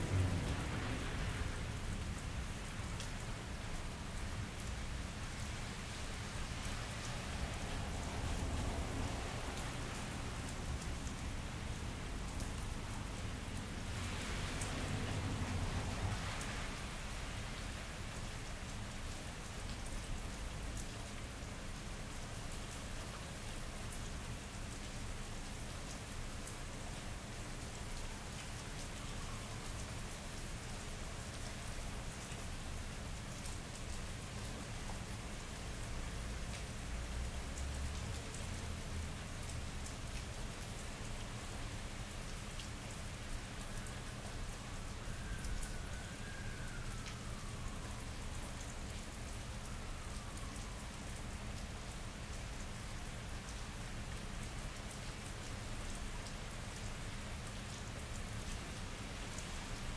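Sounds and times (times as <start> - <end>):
rain on pavement: 0.0 - 59.9.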